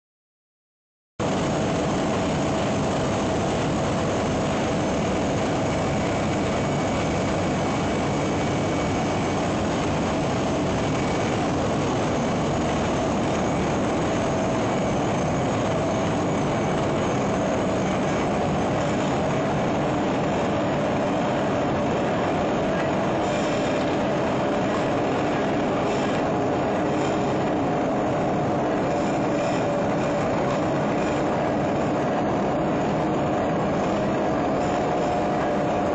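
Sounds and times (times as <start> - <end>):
factory machinery din: 1.2 - 35.9.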